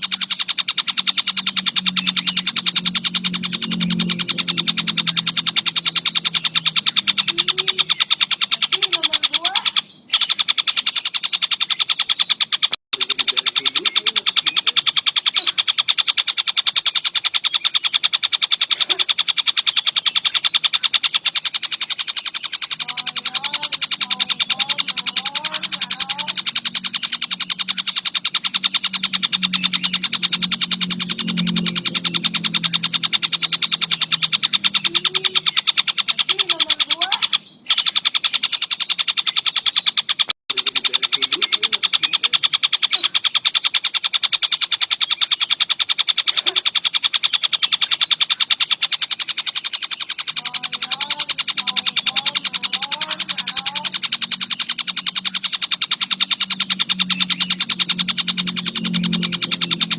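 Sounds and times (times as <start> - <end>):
kingfisher chattering call: 0.0 - 59.9.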